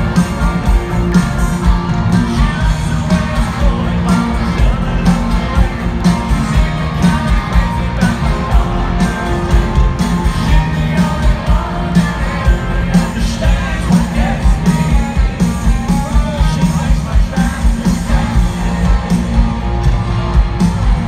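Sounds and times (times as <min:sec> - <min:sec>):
country rock band playing: 0:00.0 - 0:21.0
steady drum beat: 0:00.0 - 0:21.0
man singing: 0:02.0 - 0:19.4.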